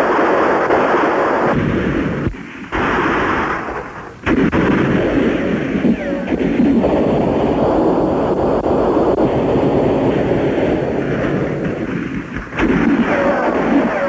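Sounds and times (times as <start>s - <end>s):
explosions: 0.0s - 14.0s
gunfire: 0.0s - 14.0s.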